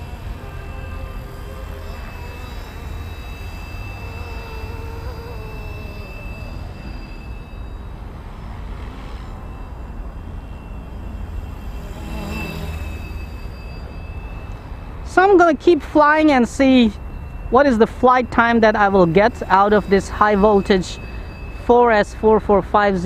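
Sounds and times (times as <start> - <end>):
rc helicopter rotor whine: 0.0 - 23.0.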